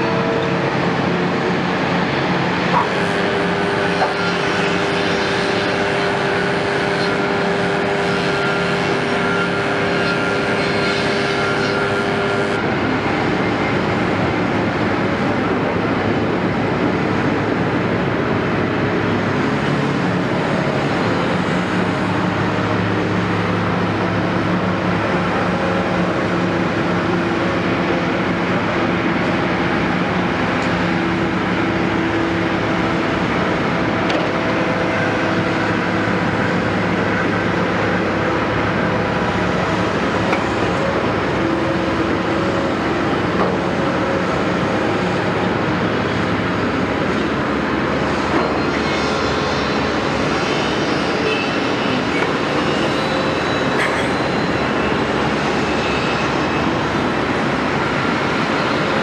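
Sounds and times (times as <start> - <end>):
excavator diesel engine running: 0.0 - 59.0
high whine: 0.0 - 59.0.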